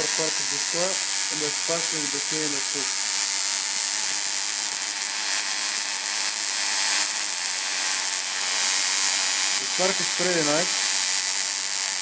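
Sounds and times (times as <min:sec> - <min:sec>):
tesla coil buzzing hiss: 0:00.0 - 0:12.0.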